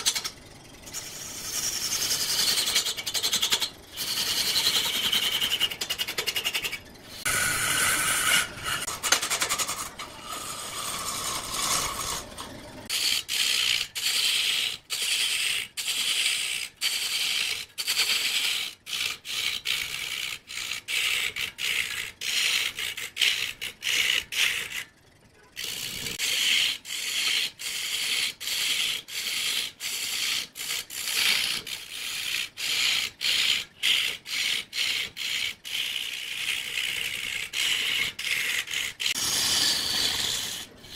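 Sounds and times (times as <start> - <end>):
woodturning tool scraping wood: 0.0 - 25.0, 25.6 - 40.9.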